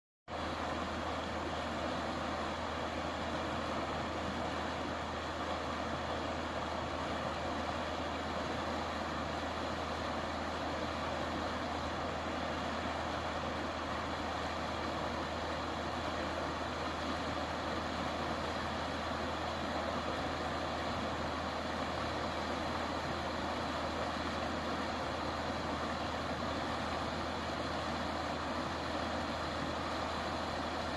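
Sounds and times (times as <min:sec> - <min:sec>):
river water flowing: 0:00.3 - 0:30.9.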